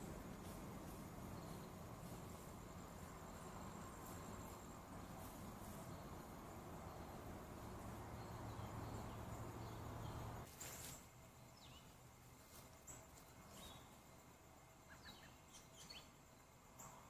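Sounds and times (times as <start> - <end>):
faint bird chirps: 0.8 - 17.0.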